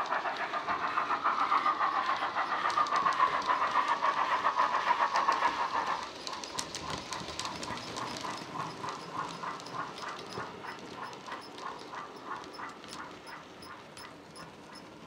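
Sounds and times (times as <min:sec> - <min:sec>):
model steam locomotive chuffs: 0:00.0 - 0:15.0
wheels clicking on track: 0:00.0 - 0:15.0.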